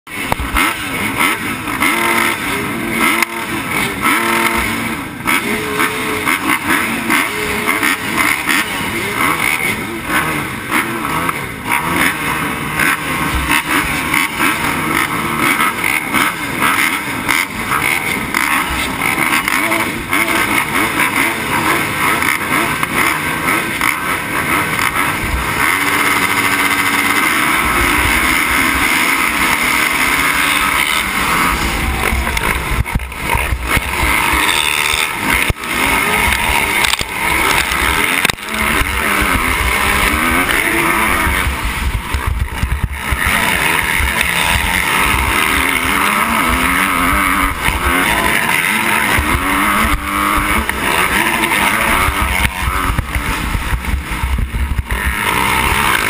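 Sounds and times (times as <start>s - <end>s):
motocross engines revving: 0.0s - 56.0s.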